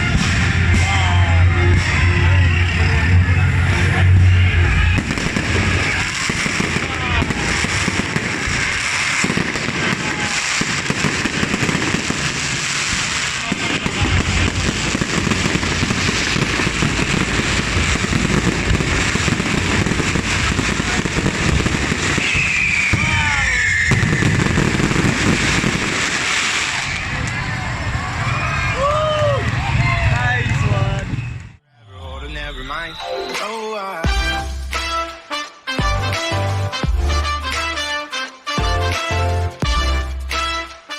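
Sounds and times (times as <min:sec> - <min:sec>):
fireworks crackling and banging: 0:00.0 - 0:31.6, 0:33.4 - 0:40.9.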